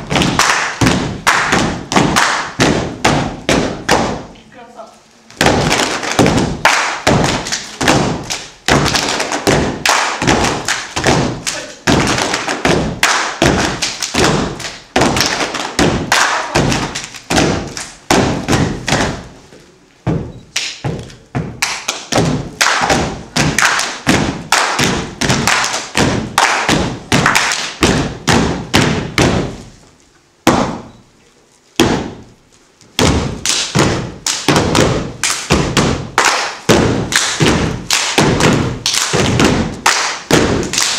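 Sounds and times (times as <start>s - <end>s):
stomps and slaps of step dancing: 0.0s - 4.3s, 5.3s - 29.8s, 30.4s - 30.9s, 31.8s - 40.9s.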